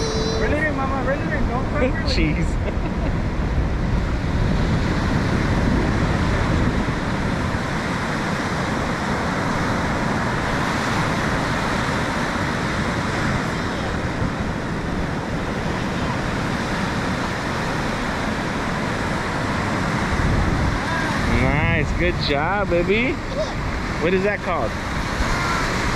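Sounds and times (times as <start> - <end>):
beach surf: 0.0 - 25.9
wind rumbling on microphone: 0.0 - 25.9.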